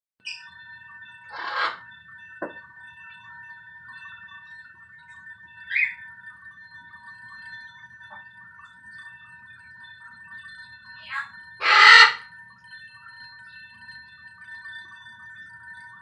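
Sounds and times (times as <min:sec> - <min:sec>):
crystal glasses ringing tones: 0:00.2 - 0:16.0.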